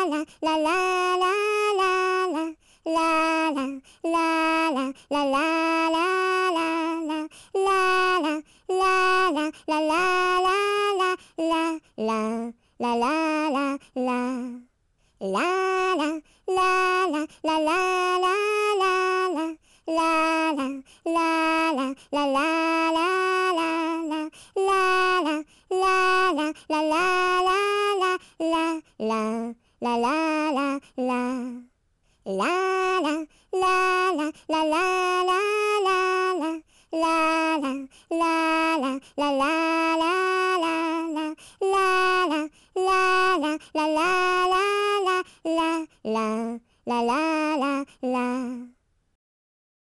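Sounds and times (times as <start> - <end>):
high voice singing: 0.0 - 14.6, 15.2 - 31.7, 32.3 - 48.8.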